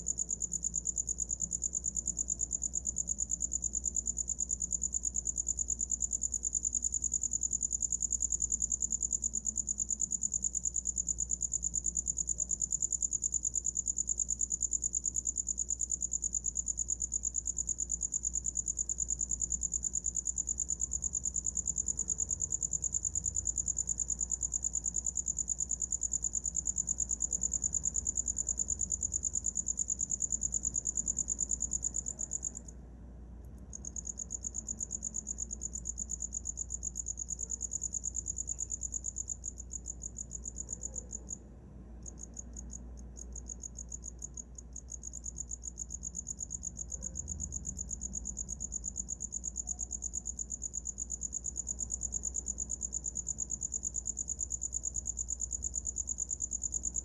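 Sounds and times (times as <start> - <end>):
cricket trilling: 0.0 - 32.8, 33.5 - 57.0.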